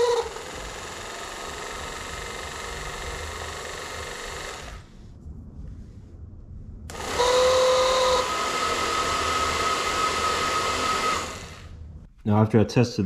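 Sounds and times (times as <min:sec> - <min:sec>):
blower motor whining: 0:00.0 - 0:05.8, 0:06.8 - 0:12.1.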